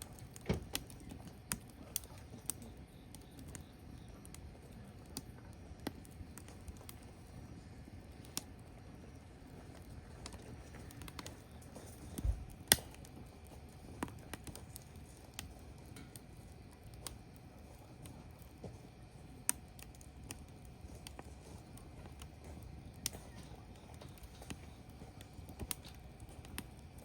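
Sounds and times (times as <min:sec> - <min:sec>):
firewood crackling and popping: 0:00.0 - 0:27.0.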